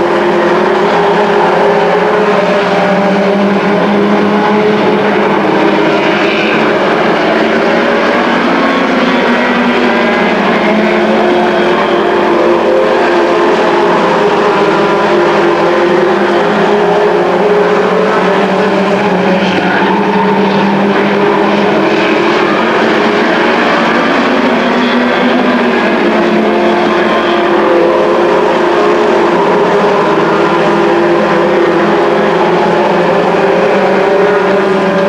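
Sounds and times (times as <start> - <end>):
race truck engines at speed: 0.0 - 35.0.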